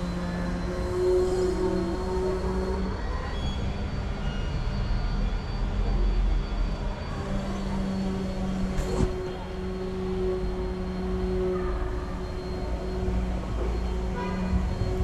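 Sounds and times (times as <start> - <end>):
low mechanical rumble and hum: 0.0 - 15.0.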